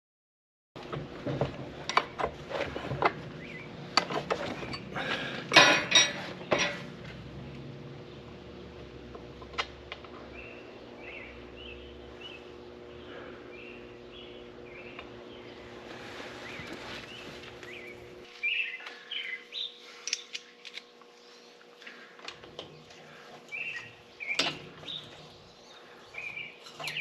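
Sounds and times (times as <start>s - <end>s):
steady hum: 0.8s - 27.0s.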